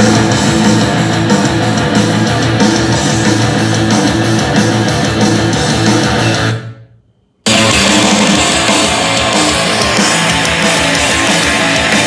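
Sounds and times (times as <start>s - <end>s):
rock music through a speaker: 0.0s - 12.0s.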